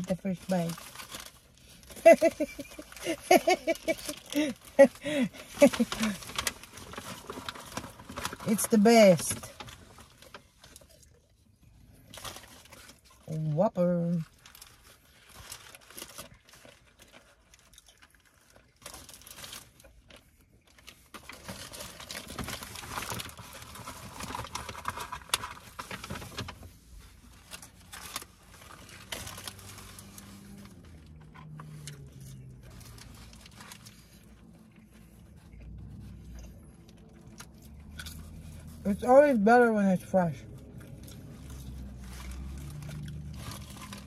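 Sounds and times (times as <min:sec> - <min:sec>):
paper wrapper crinkling: 0:00.0 - 0:11.2, 0:14.2 - 0:39.4, 0:40.5 - 0:44.0.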